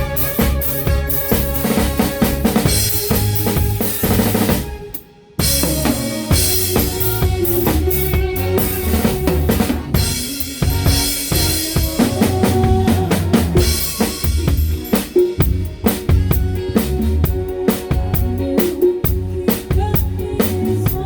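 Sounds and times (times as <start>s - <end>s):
band playing: 0.0s - 21.0s
drum kit kick and snare: 0.0s - 21.0s.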